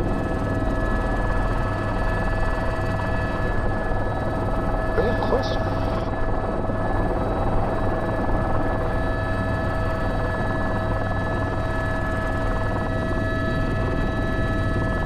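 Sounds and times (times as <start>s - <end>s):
helicopter rotor rumble: 0.0s - 15.0s
helicopter turbine whine: 0.0s - 15.0s.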